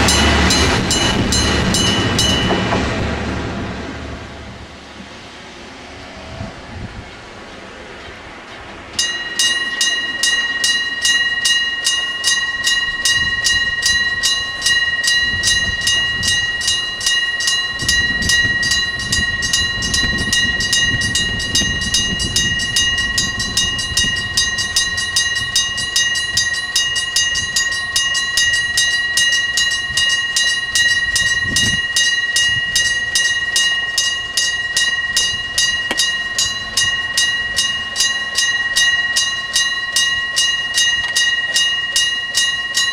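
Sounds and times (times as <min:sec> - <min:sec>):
level crossing alarm bell: 0:00.0 - 0:02.7, 0:09.0 - 0:42.9
train rumble: 0:00.0 - 0:42.9.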